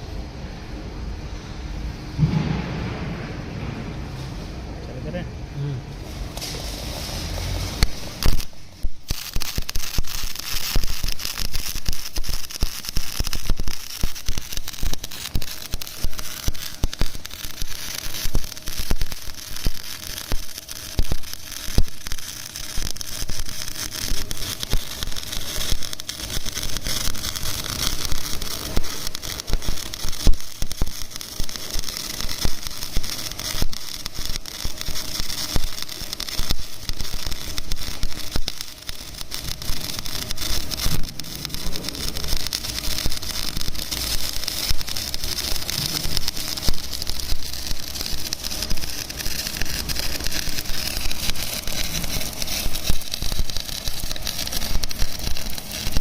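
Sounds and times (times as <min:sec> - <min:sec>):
welding arc crackling: 0:01.1 - 0:56.0.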